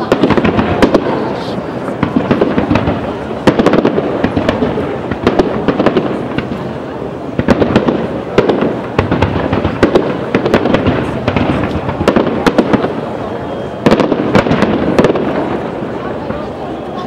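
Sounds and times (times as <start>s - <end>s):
continuous rumble: 0.0s - 17.0s
fireworks bursting: 0.0s - 17.0s.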